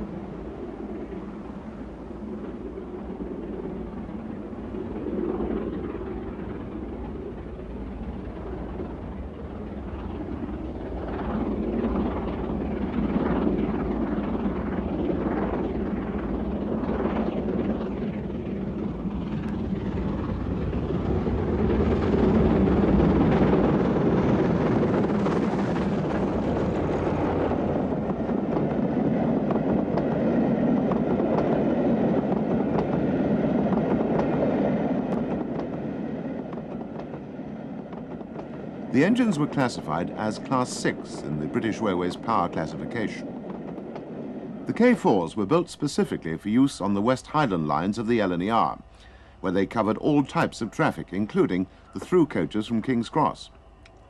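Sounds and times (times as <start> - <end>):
train coaches rumbling and clattering: 0.0 - 54.0.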